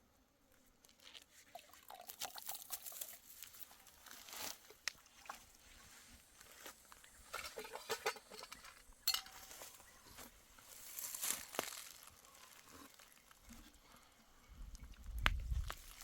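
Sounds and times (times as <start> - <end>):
dry rustling and crunching: 0.8 - 5.0, 6.4 - 14.1, 14.9 - 16.0.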